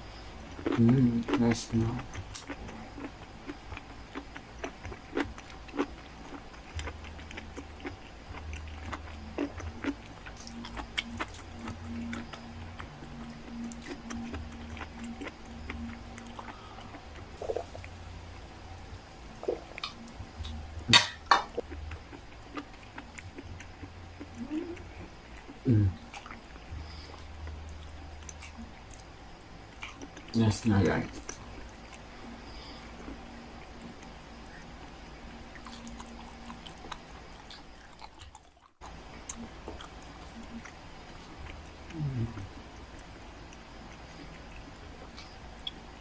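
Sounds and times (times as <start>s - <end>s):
chewing and mouth smacks: 0.5s - 17.9s, 19.4s - 29.1s, 29.8s - 30.4s, 35.5s - 42.4s, 43.0s - 46.0s.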